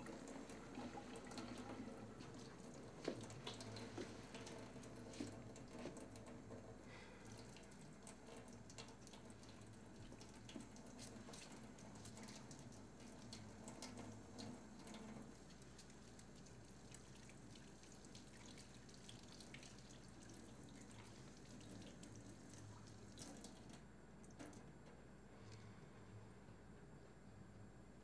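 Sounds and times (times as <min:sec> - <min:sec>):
water dripping and trickling: 0:00.0 - 0:24.7.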